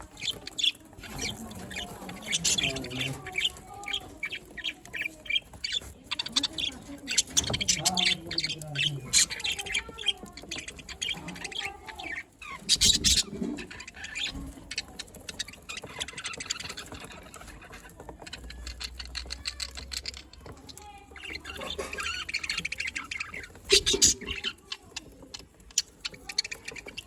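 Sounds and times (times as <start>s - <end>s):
budgerigars chattering and chirping: 0.0s - 27.0s.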